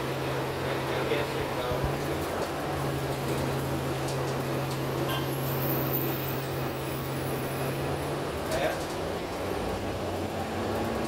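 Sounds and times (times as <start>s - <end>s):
bus engine and ventilation hum: 0.0s - 11.0s
road noise: 0.0s - 11.0s.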